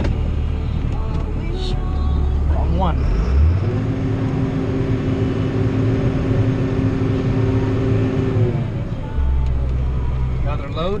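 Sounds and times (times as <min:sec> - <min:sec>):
tractor engine drone: 0:00.0 - 0:11.0.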